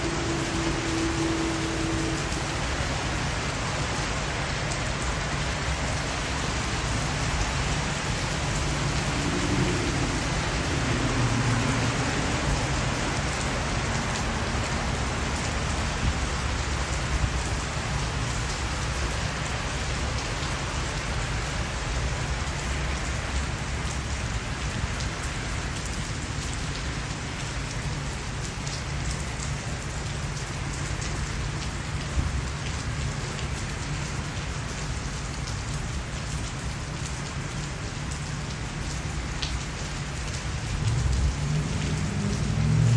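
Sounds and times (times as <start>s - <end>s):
sharp raindrops: 0.0s - 42.9s
steady rain falling: 0.0s - 42.9s.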